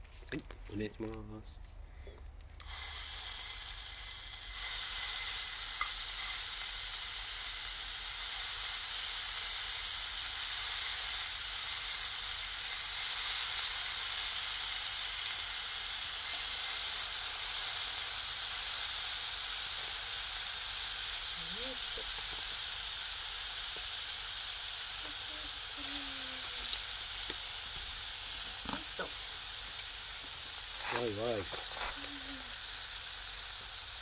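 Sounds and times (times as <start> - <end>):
meat sizzling in a skillet: 2.6 - 34.0.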